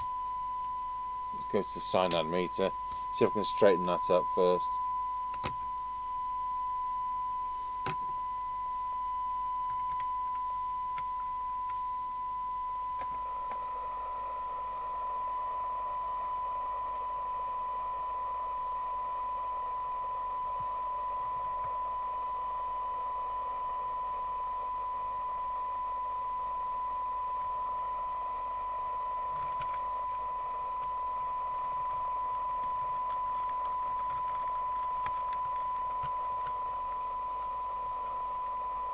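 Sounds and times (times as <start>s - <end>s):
steady test tone from loudspeaker: 0.0s - 38.9s.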